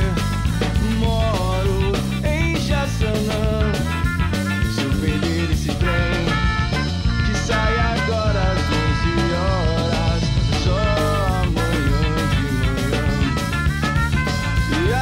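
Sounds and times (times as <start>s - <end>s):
ska band playing: 0.0s - 15.0s.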